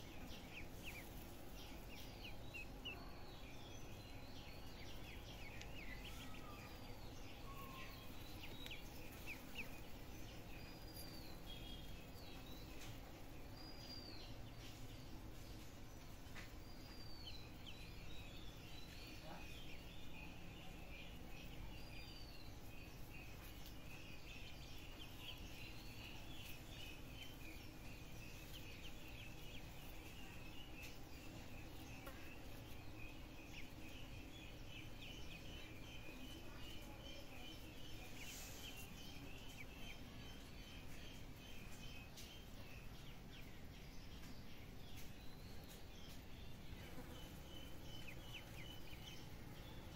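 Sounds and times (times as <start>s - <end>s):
ducklings peeping: 0.0s - 49.9s
steady background hiss: 0.0s - 49.9s.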